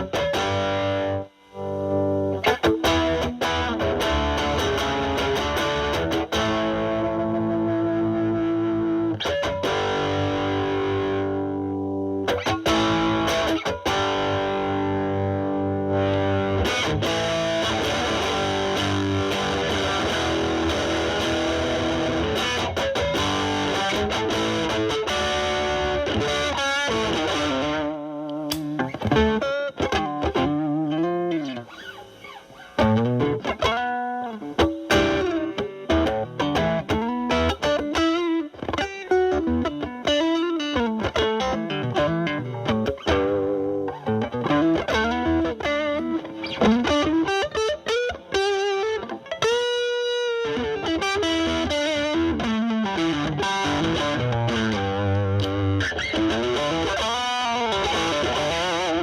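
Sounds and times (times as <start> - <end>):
electric guitar lead phrases: 0.0 - 59.0.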